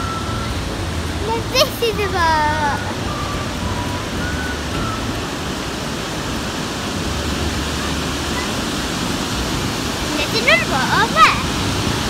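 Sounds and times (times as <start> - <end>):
water rushing through lock: 0.0 - 12.0.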